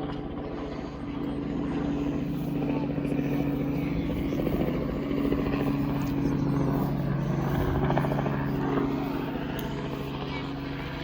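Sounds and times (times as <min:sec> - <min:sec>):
engine running steadily: 0:00.0 - 0:11.0
low hum: 0:00.0 - 0:11.0.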